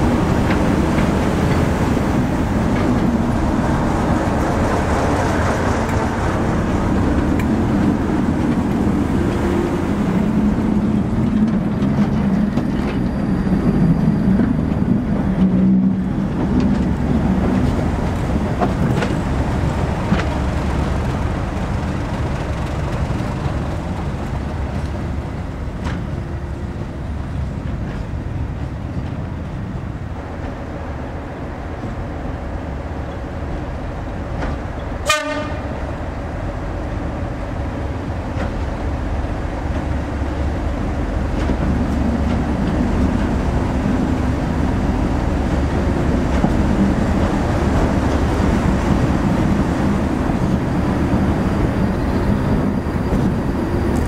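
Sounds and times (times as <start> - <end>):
diesel locomotive engine hum: 0.0 - 54.0
wheels clicking over rail joints: 0.0 - 54.0.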